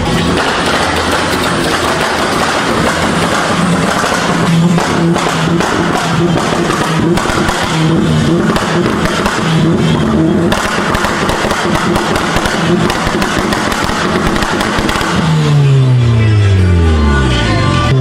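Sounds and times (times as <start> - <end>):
exhaust pops and crackles: 0.0 - 15.6
car engine on launch limiter: 0.0 - 18.0.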